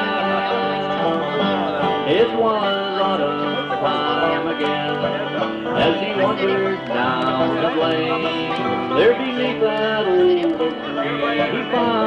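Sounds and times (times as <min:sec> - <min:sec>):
bluegrass band playing: 0:00.0 - 0:12.0
sliding fiddle notes: 0:00.0 - 0:12.0.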